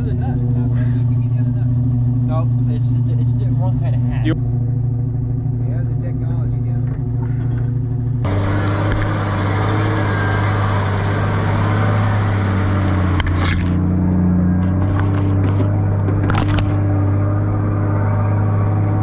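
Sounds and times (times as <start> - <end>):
road noise: 0.0 - 19.0
vehicle engine droning: 0.0 - 19.0.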